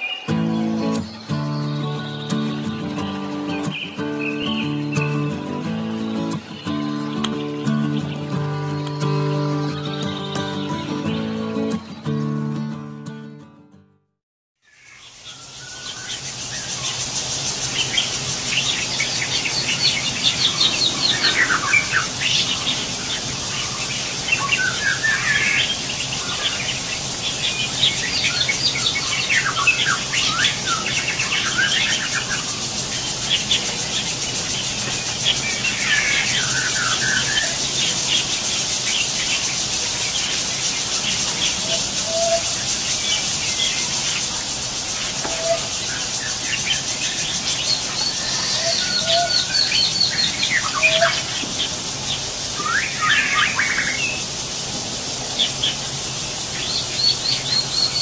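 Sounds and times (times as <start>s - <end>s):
steady high hiss: 0.0s - 11.9s, 14.7s - 58.0s
birds squealing chirps: 0.0s - 12.0s, 14.7s - 58.0s.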